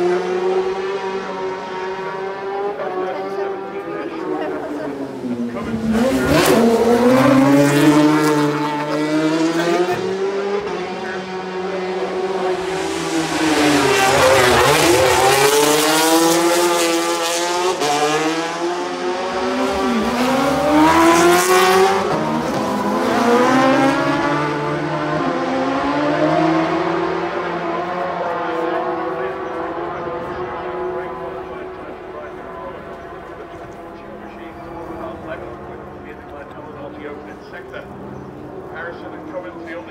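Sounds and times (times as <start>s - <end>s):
racing motorcycle engines revving: 0.0s - 39.9s.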